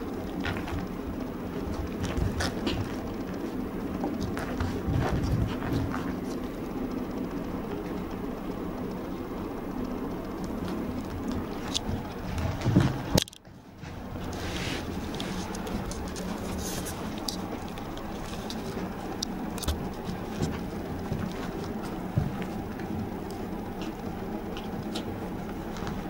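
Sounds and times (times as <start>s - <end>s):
puppy paws tapping and scrabbling: 0.3s - 6.7s, 10.4s - 26.0s.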